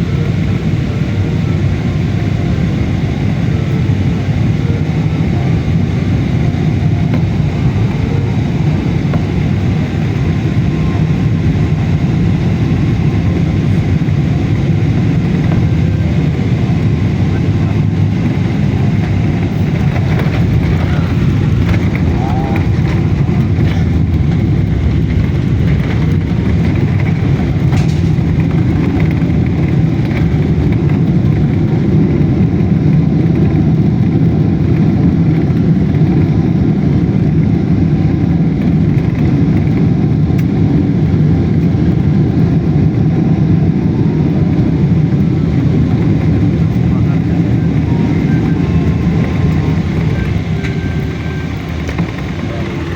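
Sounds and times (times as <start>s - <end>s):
jet airliner rumble in cabin: 0.0s - 52.9s.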